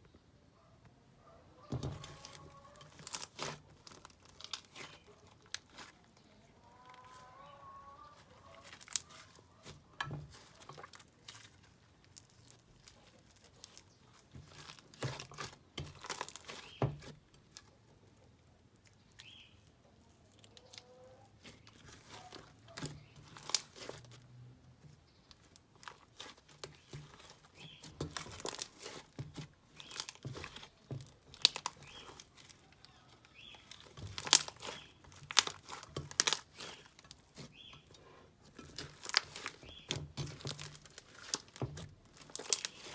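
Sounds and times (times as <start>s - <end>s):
slime squished by hand: 1.8s - 6.2s, 6.8s - 17.8s, 18.8s - 24.4s, 25.3s - 37.7s, 38.4s - 42.9s.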